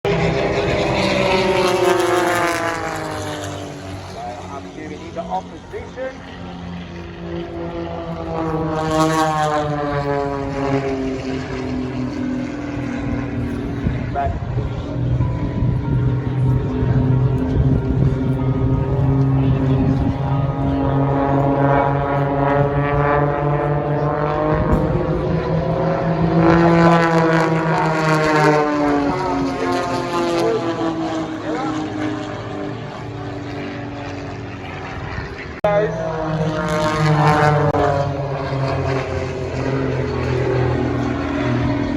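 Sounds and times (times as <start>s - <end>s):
propeller aircraft flying past: 0.1s - 41.9s.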